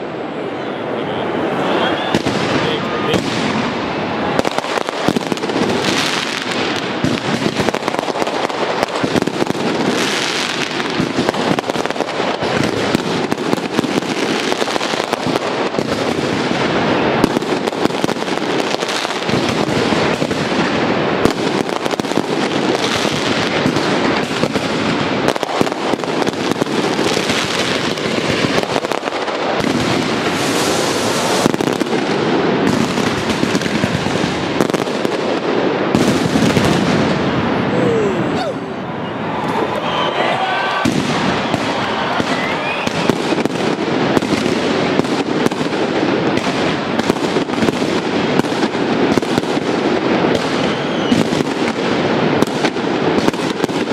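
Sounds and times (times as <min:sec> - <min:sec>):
fireworks crackling: 0:00.0 - 0:53.9
heavy fireworks bangs: 0:01.2 - 0:53.9.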